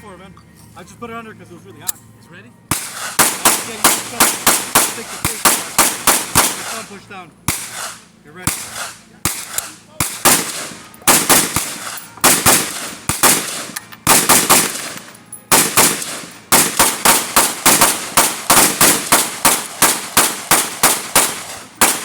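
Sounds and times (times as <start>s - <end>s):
rifle gunshots: 2.7s - 22.0s.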